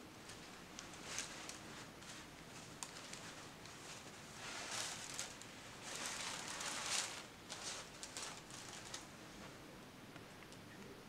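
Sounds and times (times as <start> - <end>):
tissue paper and fabric rustling: 0.2 - 9.6.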